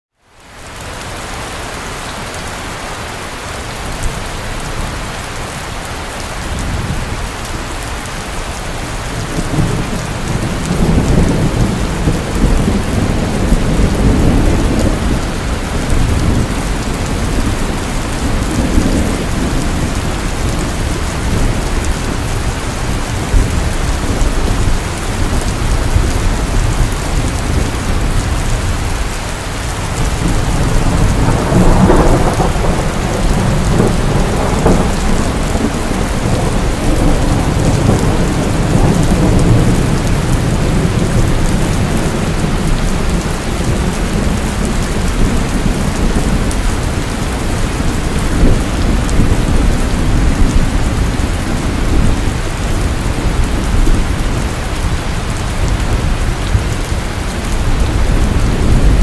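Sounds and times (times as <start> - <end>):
steady rain falling: 0.1 - 59.0
rolling thunder: 8.6 - 59.0.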